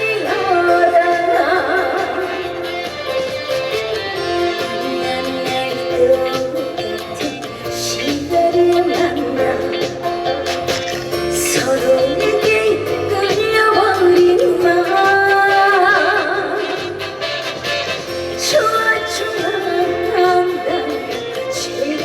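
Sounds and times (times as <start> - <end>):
woman singing: 0.0 - 17.3, 18.1 - 22.0
band accompaniment: 0.0 - 22.0.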